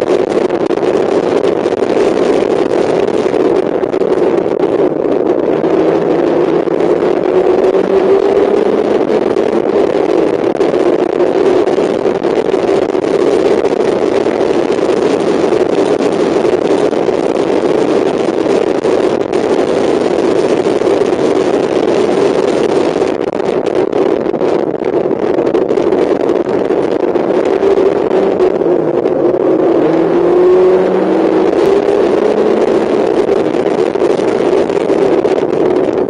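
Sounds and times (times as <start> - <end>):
race car engine droning: 0.0 - 36.0.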